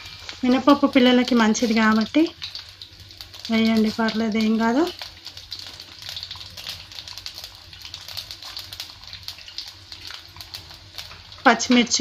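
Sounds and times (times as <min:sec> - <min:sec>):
hot oil sizzling with spices: 0:00.0 - 0:12.0.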